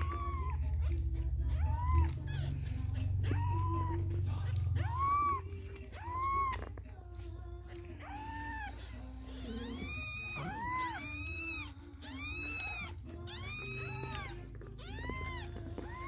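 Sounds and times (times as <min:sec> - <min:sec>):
kitten mewing: 0:00.0 - 0:06.8, 0:07.9 - 0:16.0.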